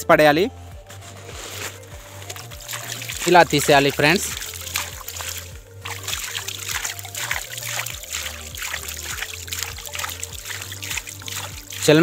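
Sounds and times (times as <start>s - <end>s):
low background music: 0.0s - 12.0s
hand splashing muddy water: 1.0s - 12.0s.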